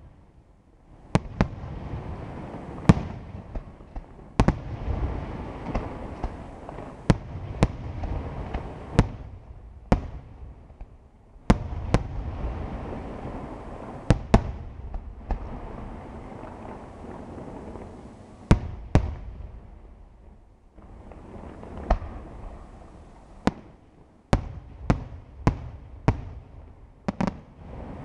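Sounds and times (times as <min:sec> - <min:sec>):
low rumble and crackle: 0:00.0 - 0:28.0.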